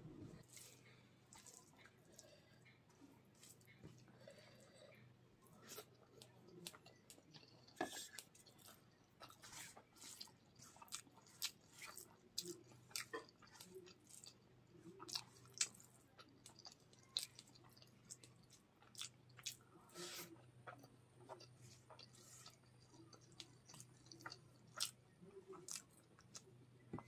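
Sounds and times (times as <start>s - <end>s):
fingers squishing rice: 0.4s - 4.1s, 5.6s - 26.9s.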